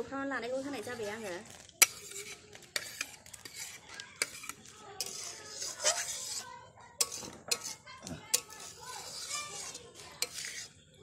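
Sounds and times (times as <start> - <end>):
metal spoon scraping a wok: 0.4 - 11.0.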